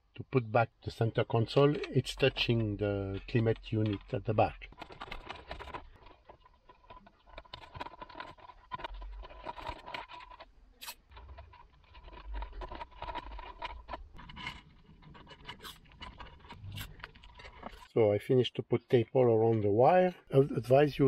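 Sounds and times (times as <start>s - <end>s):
electrical tape rustling: 0.8s - 18.0s.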